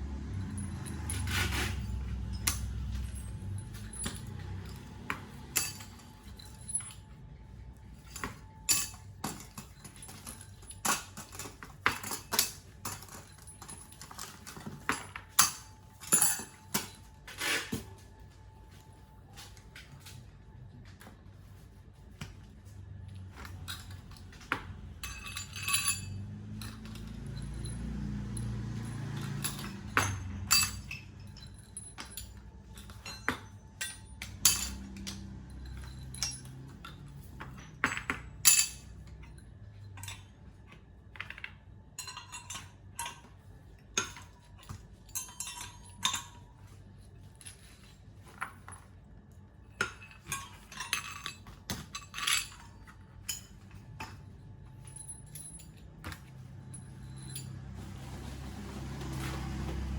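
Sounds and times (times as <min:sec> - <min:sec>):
metal parts clinking: 0:00.1 - 0:18.5, 0:23.0 - 0:59.9.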